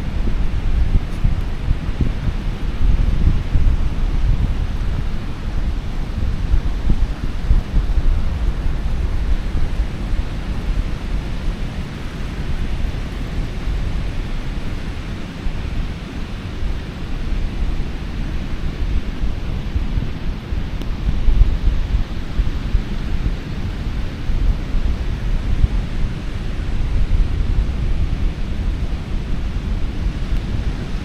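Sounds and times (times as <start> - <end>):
ocean surf: 0.0 - 31.0
wind buffeting microphone: 0.0 - 31.0.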